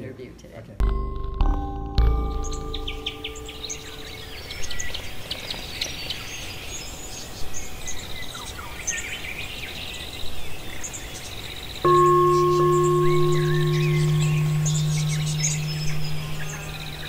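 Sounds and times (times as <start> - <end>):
songbirds chirping and trilling: 2.2 - 17.0
steady outdoor hiss: 3.1 - 17.0.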